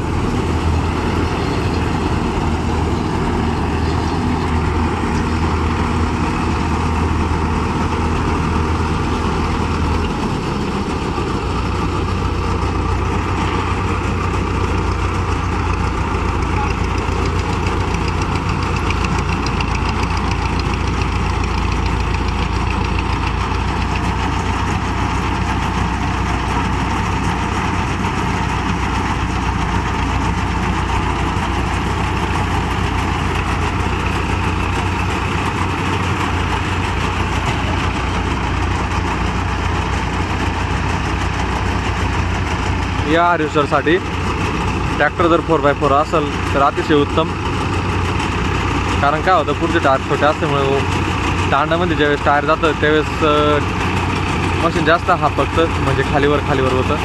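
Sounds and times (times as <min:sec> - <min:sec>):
tractor engine and harvester drone: 0:00.0 - 0:57.0.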